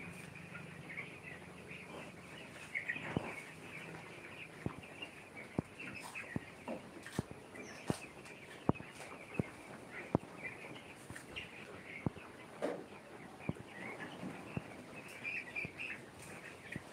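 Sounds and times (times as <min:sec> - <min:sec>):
chicks peeping: 0:00.0 - 0:16.9.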